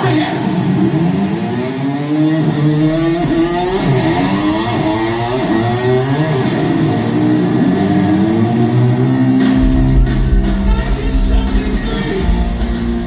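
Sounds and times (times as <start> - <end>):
slide electric guitar: 0.0 - 13.0.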